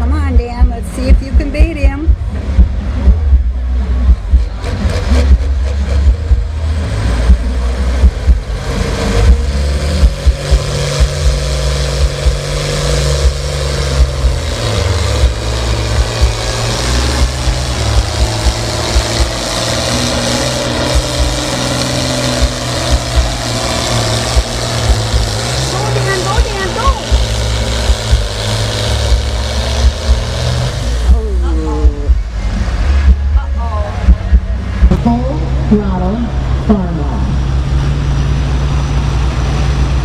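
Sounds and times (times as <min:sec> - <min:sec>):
tractor engine under full load: 0:00.0 - 0:40.0.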